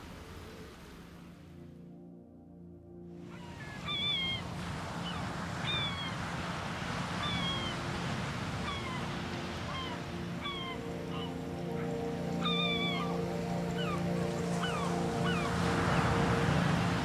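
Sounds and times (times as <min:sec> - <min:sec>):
sea surf: 0:00.0 - 0:01.6, 0:03.2 - 0:17.0
gulls calling: 0:03.2 - 0:17.0.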